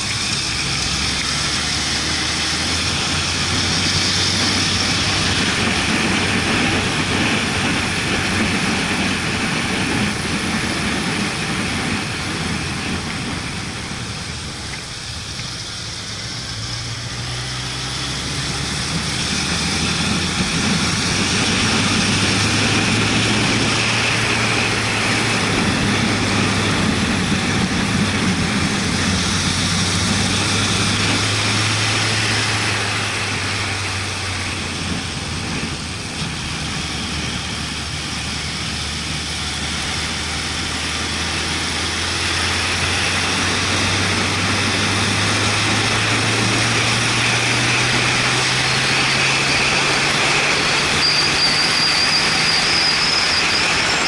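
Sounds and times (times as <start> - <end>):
motorcycle engine: 0.0 - 54.0
wind rush on microphone: 0.0 - 54.0.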